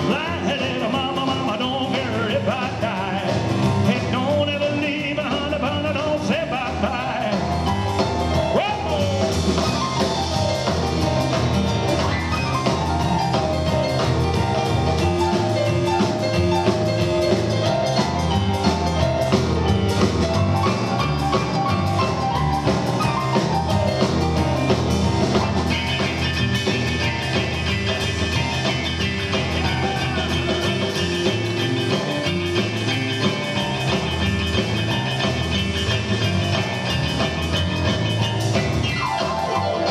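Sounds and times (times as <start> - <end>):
double bass: 0.0 - 39.9
drums: 0.0 - 39.9
fast piano: 0.0 - 39.9.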